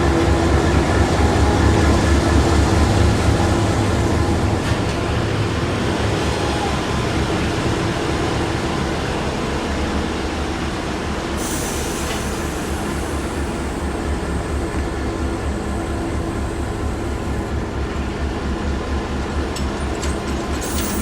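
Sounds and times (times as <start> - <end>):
diesel locomotive running: 0.0 - 21.0
train rolling: 0.0 - 21.0.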